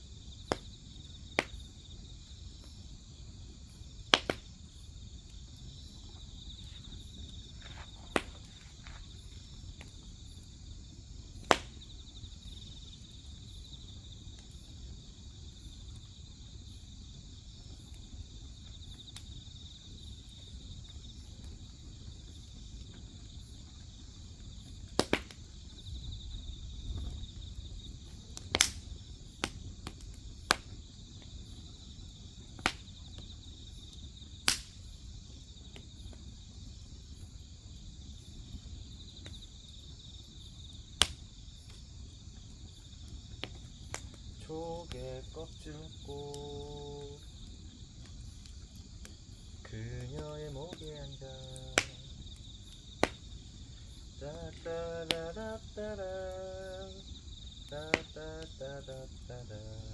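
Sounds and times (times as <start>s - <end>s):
crickets chirring: 0.0s - 59.9s
firewood crackling and popping: 0.0s - 59.9s.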